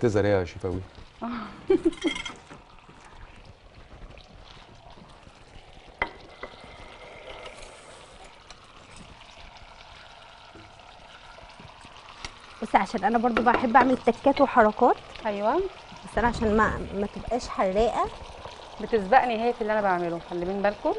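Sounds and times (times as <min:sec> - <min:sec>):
chicken sizzling in a frying pan: 0:00.0 - 0:20.9.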